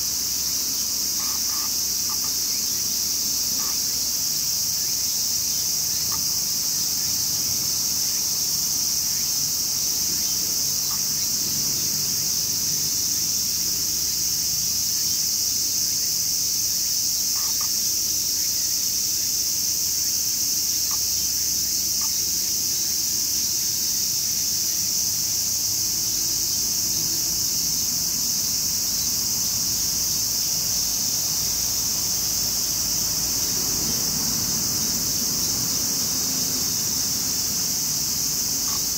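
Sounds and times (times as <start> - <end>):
shrill insect chorus: 0.0 - 38.9.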